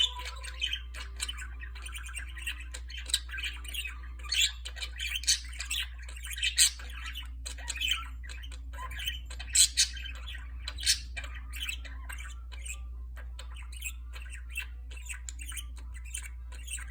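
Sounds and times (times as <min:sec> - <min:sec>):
budgerigar warbling and chirping: 0:00.0 - 0:16.9.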